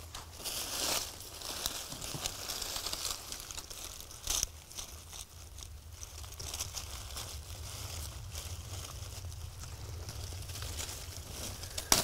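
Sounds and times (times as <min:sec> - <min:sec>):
dry leaves rustling: 0:00.0 - 0:12.0
leaves crunching: 0:00.0 - 0:12.0.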